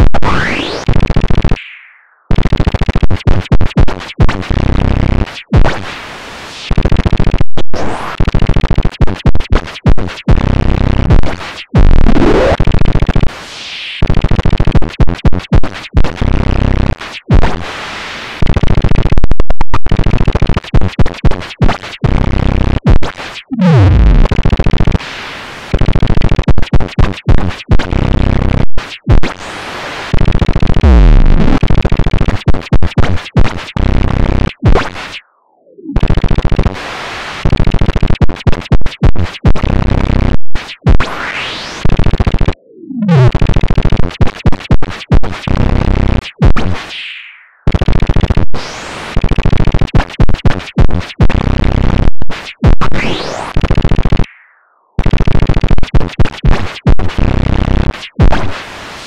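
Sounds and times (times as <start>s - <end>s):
gated filtered white noise: 0.0s - 59.0s.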